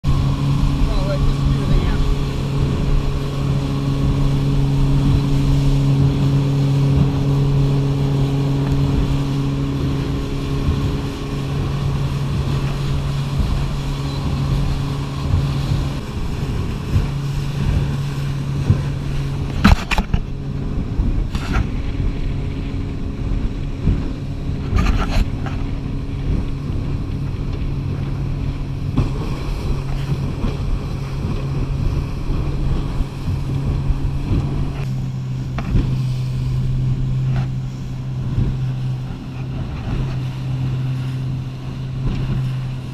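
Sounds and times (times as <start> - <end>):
outboard motor running: 0.0 - 42.9
wind and water rushing: 0.0 - 42.9.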